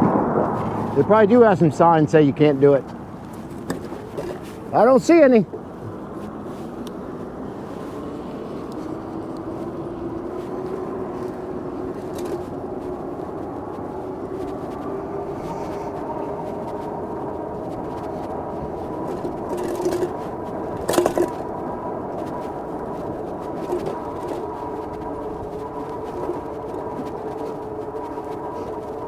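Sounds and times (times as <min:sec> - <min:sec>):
rumble of tyres and wind: 0:00.0 - 0:29.0.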